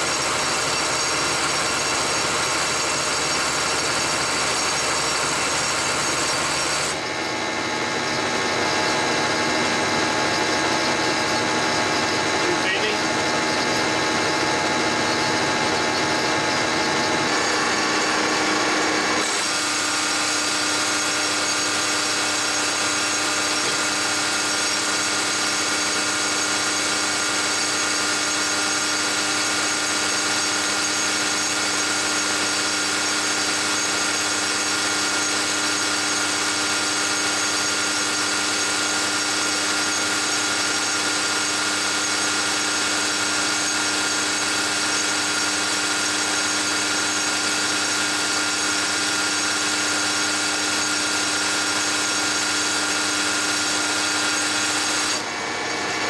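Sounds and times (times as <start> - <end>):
injection pump mechanical whine: 0.0 - 56.0.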